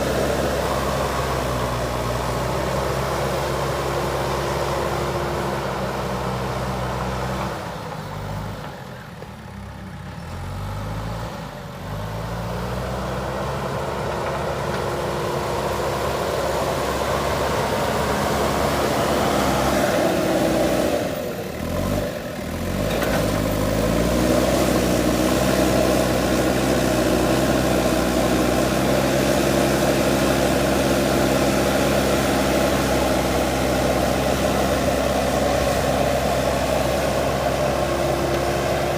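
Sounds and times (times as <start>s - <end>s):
backhoe diesel engine revving: 0.0s - 38.9s.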